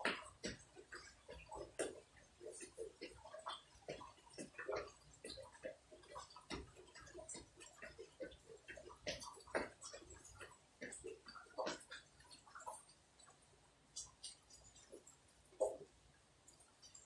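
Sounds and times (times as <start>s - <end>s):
raindrops pattering: 0.0s - 17.0s.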